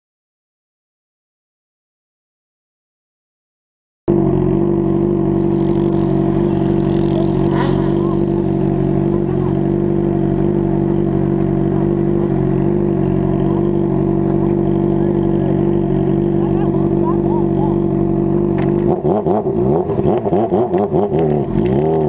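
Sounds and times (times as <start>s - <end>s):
motorcycle engine droning: 4.1s - 22.0s.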